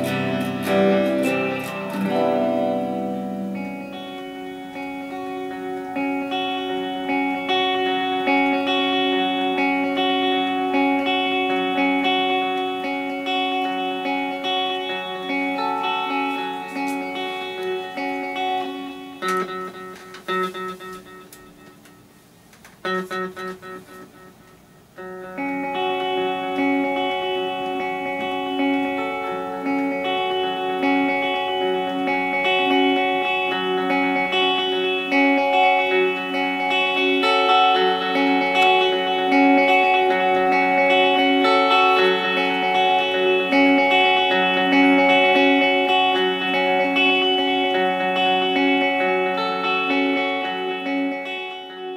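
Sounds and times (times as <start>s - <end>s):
electric guitar with delay: 0.0s - 51.9s.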